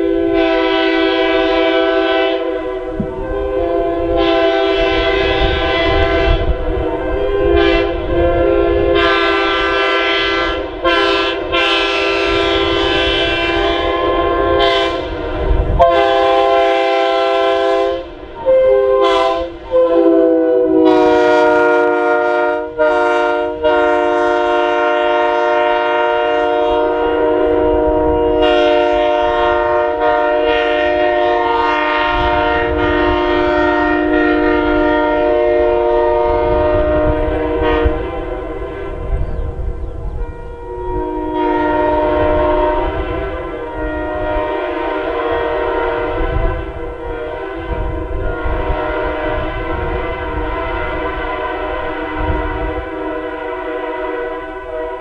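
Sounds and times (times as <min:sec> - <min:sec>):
locomotive air horn chords: 0:00.0 - 0:55.0.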